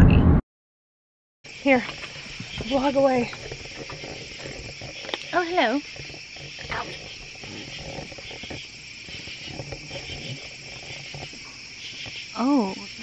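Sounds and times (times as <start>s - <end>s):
crickets chirping: 1.5s - 13.0s.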